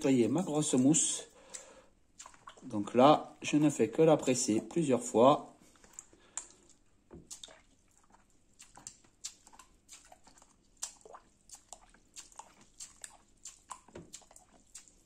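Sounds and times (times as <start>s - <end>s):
sponge squelching under water: 0.0s - 15.0s
water splashing: 0.0s - 15.0s.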